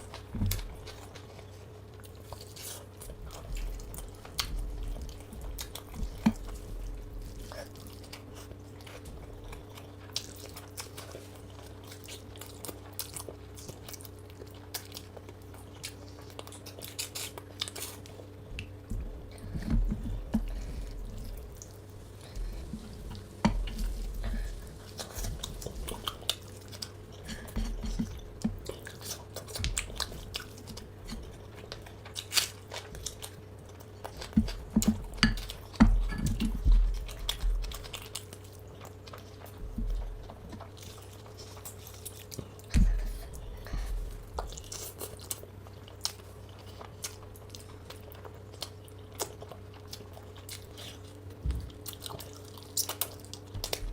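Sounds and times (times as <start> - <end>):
low hum: 0.0 - 48.6
person chewing and crunching food: 0.0 - 53.9.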